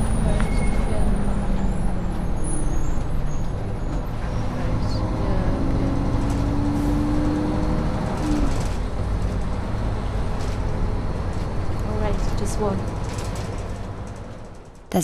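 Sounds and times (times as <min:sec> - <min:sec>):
bus engine rumble: 0:00.0 - 0:15.0
humming engine note: 0:00.0 - 0:15.0
road noise: 0:00.0 - 0:15.0.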